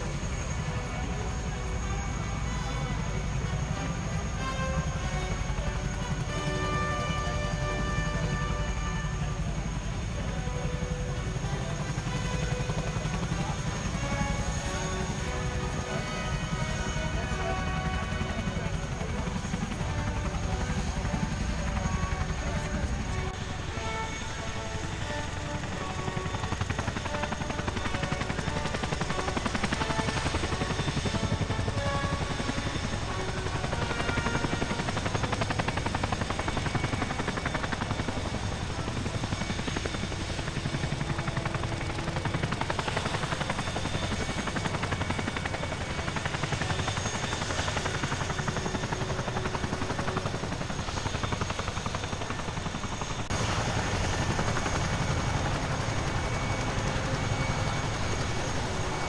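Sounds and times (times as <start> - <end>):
helicopter rotors chopping: 0.0 - 59.0.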